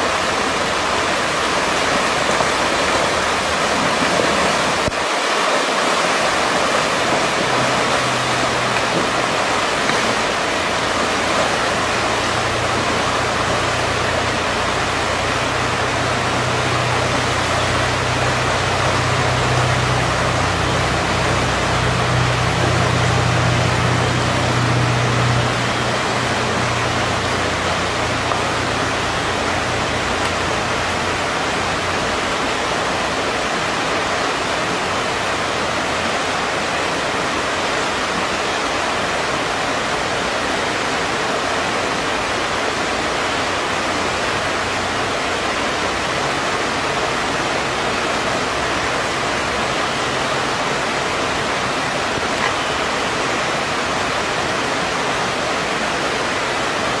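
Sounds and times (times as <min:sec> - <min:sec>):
creek running over stones: 0:00.0 - 0:57.0.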